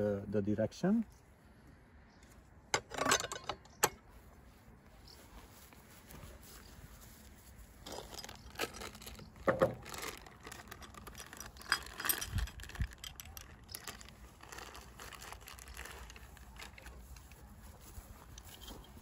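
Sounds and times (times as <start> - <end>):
handling clicks and rustles: 2.1 - 19.0.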